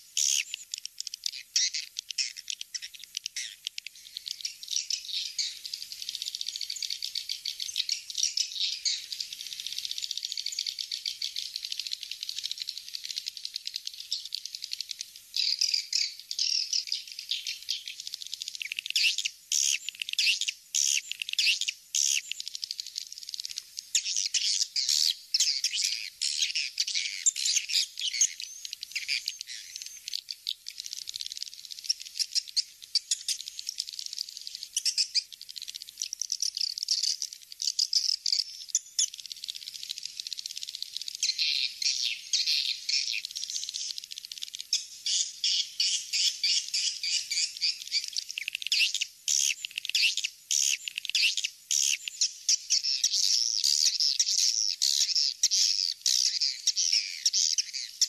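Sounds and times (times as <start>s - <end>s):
swiftlets twittering and chirping: 0.0s - 58.0s.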